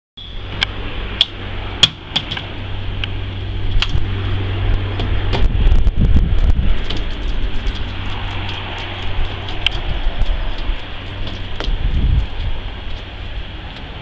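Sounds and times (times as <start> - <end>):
steady low hum: 0.2 - 14.0.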